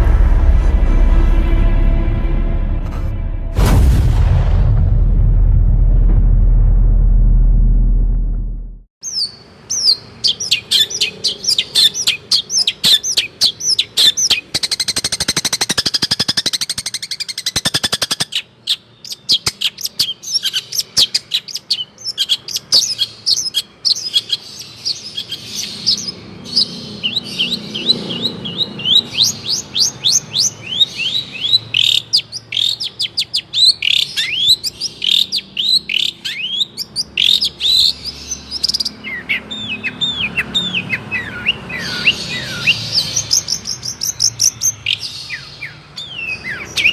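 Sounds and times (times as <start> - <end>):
bird chirping: 9.0 - 46.9.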